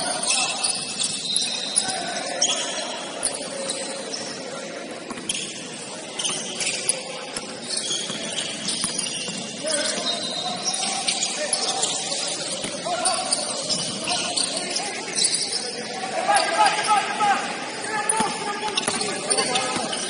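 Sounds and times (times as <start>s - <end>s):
players' voices: 0.0s - 20.0s
sneakers squeaking on court floor: 0.0s - 20.0s.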